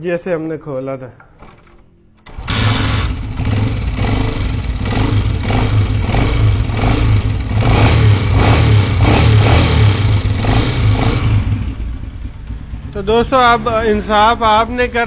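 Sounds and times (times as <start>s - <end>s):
motorcycle engine running: 2.2s - 15.0s.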